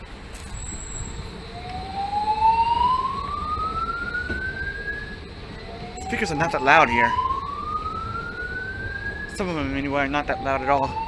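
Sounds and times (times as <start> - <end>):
fire alarm whoop tone: 0.0 - 11.0.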